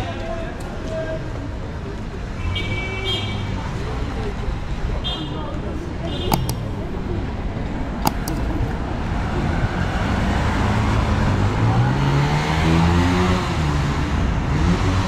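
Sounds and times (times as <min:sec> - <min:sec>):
steady road noise: 0:00.0 - 0:15.0.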